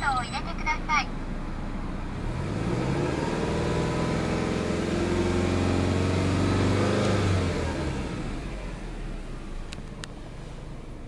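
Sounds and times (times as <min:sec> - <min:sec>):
car engine revving: 0:01.1 - 0:11.0.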